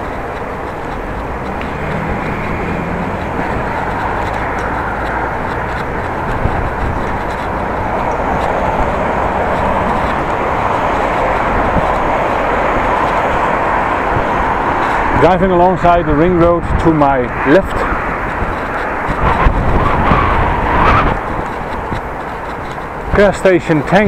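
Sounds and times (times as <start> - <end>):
bicycle riding noise: 0.0 - 24.0
road traffic rushing: 0.0 - 24.0.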